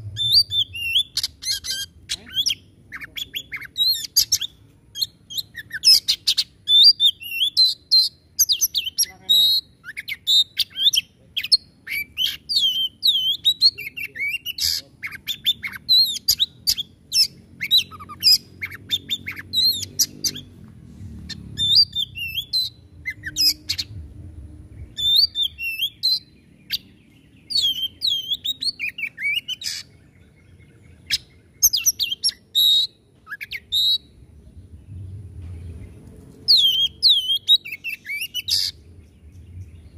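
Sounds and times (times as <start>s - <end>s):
bird singing harsh and whistled notes: 0.0s - 20.6s, 21.3s - 39.9s.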